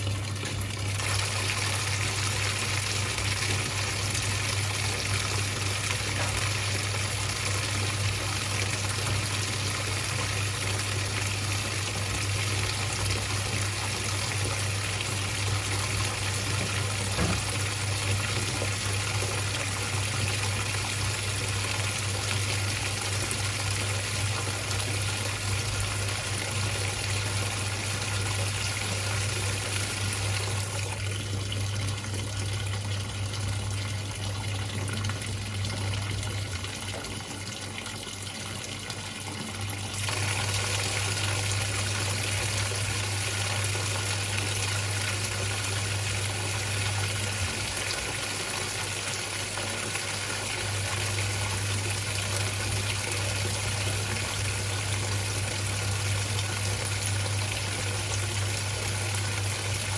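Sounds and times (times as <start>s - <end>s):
washing machine low hum: 0.0s - 59.9s
water rushing into washing machine: 0.0s - 59.9s.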